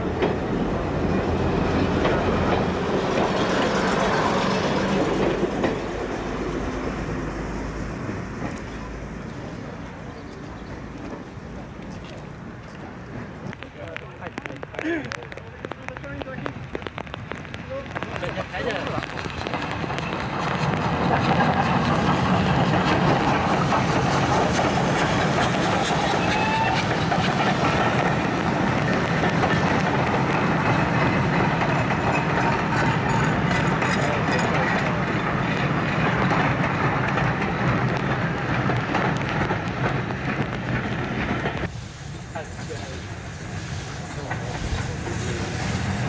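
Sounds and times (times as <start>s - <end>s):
train coaches rolling on rails: 0.0s - 46.0s.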